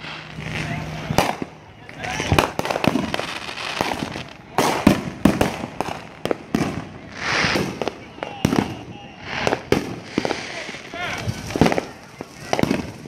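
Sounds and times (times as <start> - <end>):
fireworks bangs and crackling pops: 0.0 - 13.0.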